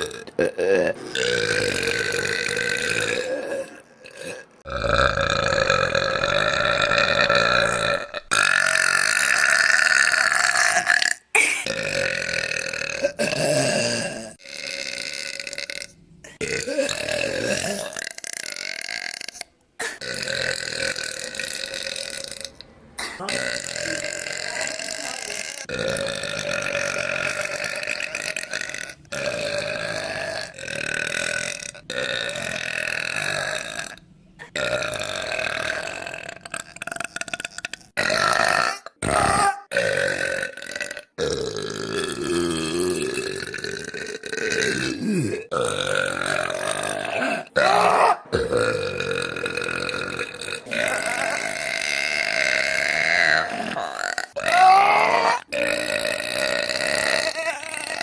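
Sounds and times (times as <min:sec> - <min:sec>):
girl burping: 0:00.0 - 0:32.7, 0:34.4 - 0:58.0.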